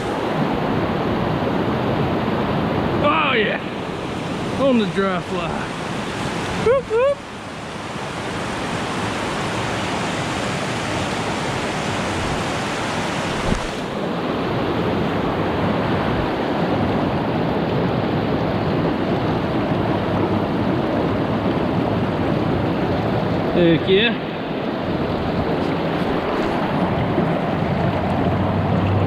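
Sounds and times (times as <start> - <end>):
creek rushing over boulders: 0.0 - 29.0.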